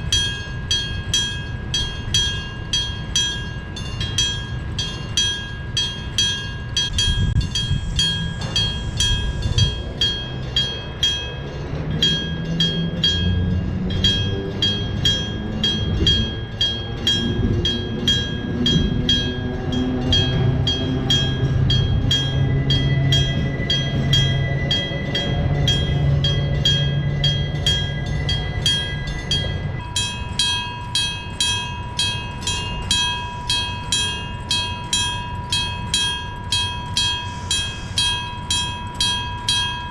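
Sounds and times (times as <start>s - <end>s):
railway crossing bell clanging: 0.0s - 39.9s.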